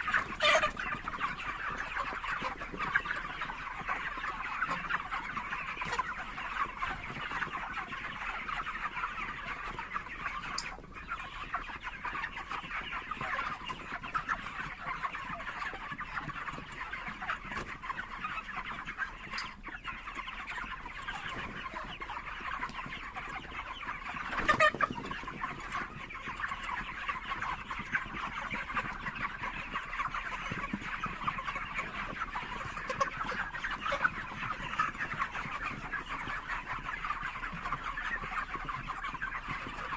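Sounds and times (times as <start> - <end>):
chickens clucking and cheeping: 0.0 - 39.9.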